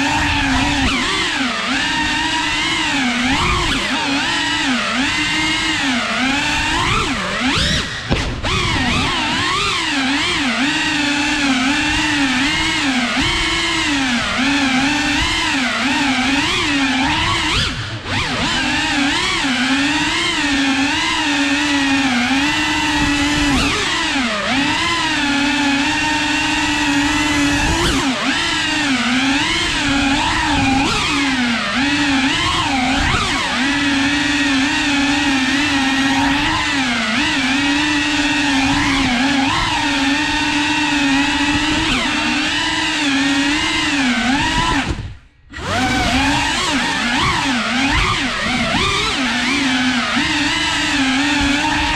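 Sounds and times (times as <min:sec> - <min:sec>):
drone motors whining: 0:00.0 - 0:51.9.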